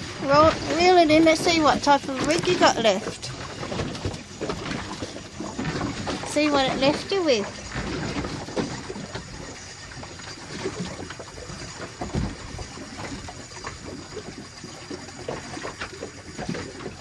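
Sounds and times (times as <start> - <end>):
small knocks and splashes: 0.0 - 17.0
water lapping against boat hull: 0.0 - 17.0.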